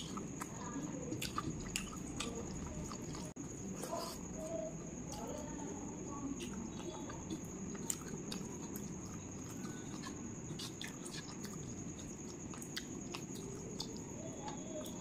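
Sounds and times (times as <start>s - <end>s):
chewing crunchy food: 0.0s - 15.0s.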